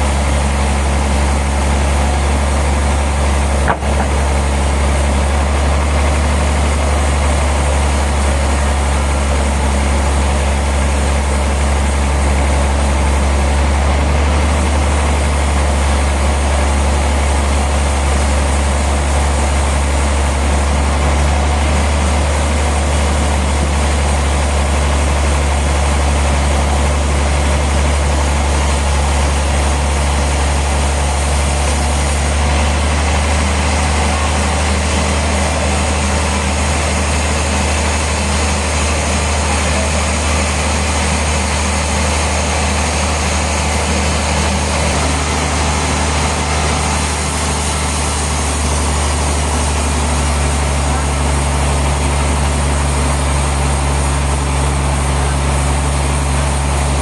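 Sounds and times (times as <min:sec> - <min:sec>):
heavy engine droning: 0:00.0 - 0:57.0.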